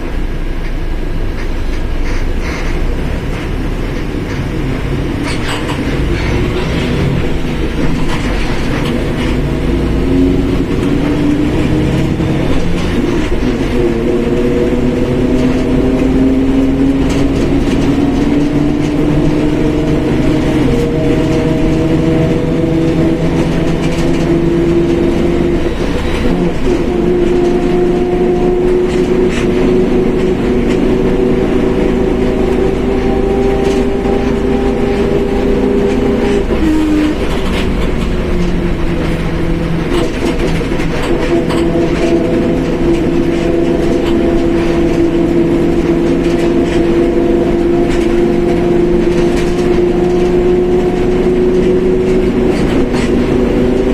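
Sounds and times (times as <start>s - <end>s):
bus differential whining: 0.0s - 53.9s
diesel engine running: 0.0s - 53.9s.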